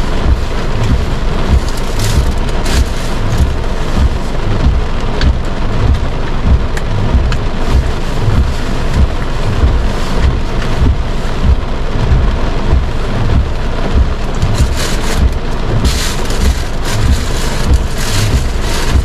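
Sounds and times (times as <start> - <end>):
heavy rain on car roof: 0.0 - 19.0
low rumble: 0.0 - 19.0
raindrop ticks: 0.0 - 19.0.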